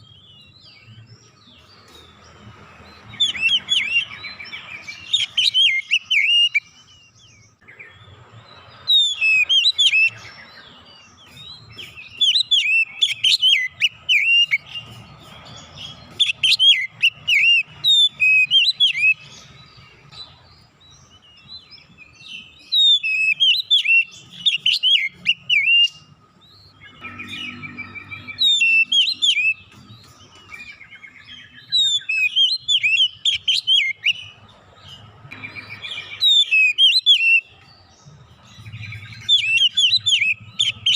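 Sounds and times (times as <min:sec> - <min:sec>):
magpie-robin singing chirps and whistles: 0:00.0 - 0:40.9.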